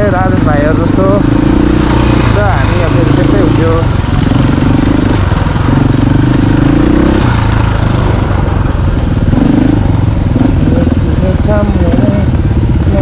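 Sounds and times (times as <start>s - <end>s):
motorcycle engine buzzing: 0.0s - 13.0s.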